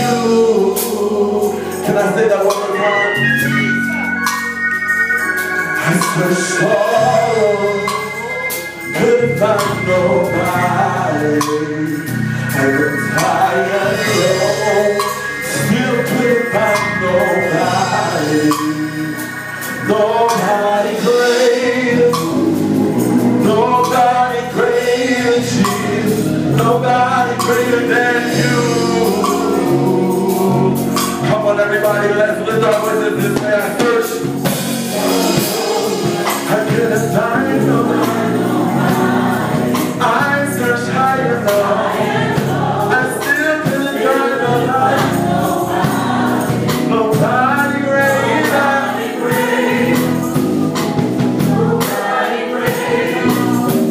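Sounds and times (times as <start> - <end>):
gospel group singing: 0.0 - 53.9
organ: 0.0 - 53.9.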